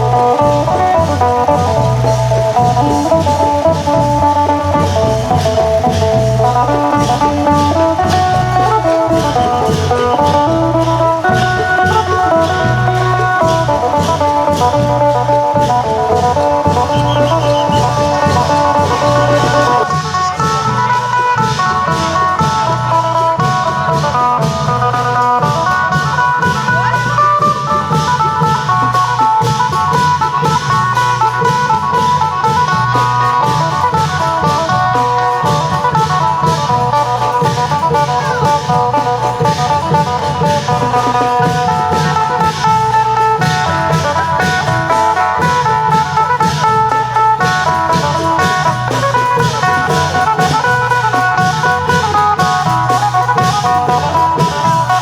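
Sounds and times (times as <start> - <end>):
cymbals: 0.0 - 55.0
long drums beating: 0.0 - 55.0
plucked lute melody: 0.0 - 55.0.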